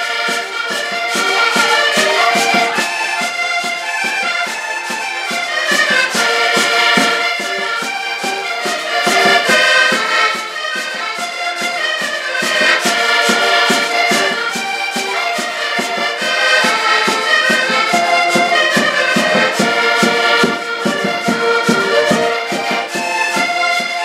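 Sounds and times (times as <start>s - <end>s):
accordions playing a dance tune: 0.0s - 24.0s.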